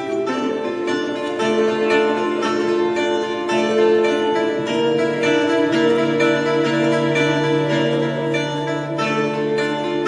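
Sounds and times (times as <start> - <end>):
held low notes: 0.0 - 10.0
plucked lute melody: 0.0 - 10.0.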